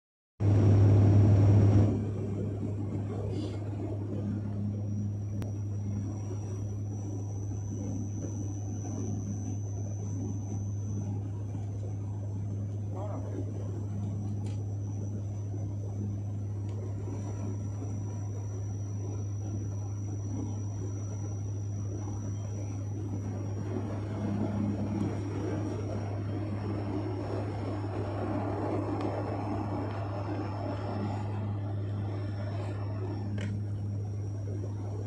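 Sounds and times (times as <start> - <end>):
faint high whine: 0.4 - 35.0
propeller drone: 0.4 - 35.0.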